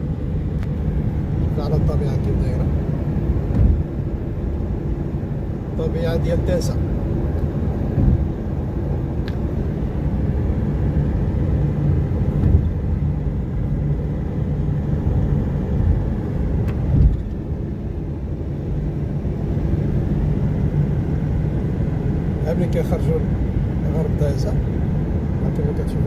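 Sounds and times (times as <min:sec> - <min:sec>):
vehicle rumble from inside cabin: 0:00.0 - 0:26.0.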